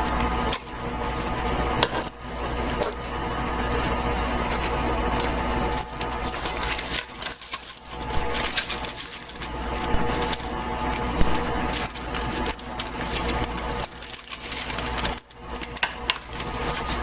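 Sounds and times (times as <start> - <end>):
parchment paper crinkling: 2.0 - 17.0.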